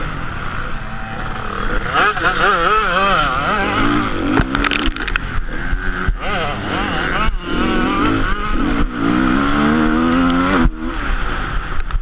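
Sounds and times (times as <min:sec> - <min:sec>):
motocross bike engine accelerating: 0:00.0 - 0:11.8.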